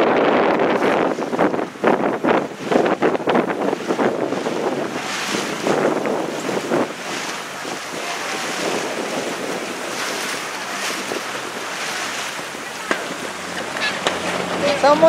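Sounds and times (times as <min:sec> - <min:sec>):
waves splashing: 0:00.0 - 0:15.0
wind buffeting microphone: 0:00.0 - 0:15.0.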